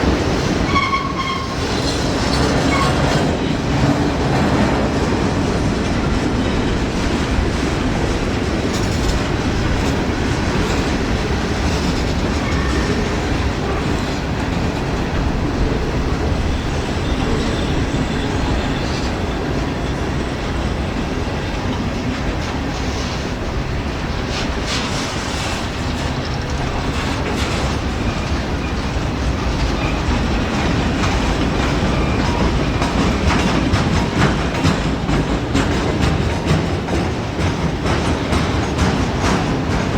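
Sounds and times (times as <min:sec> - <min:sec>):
freight train cars rumbling: 0:00.0 - 0:39.9
wheels clicking over rail joints: 0:00.0 - 0:39.9.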